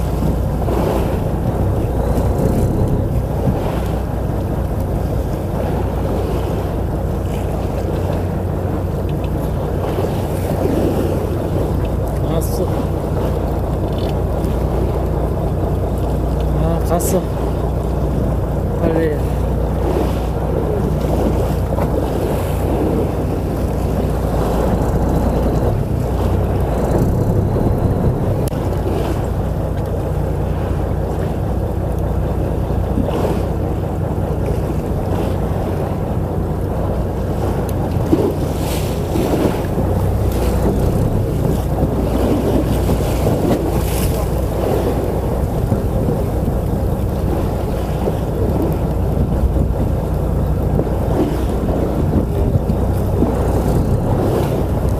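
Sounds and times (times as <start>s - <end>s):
boat engine running: 0.0s - 54.9s
waves: 0.0s - 54.9s
wind buffeting microphone: 0.0s - 54.9s.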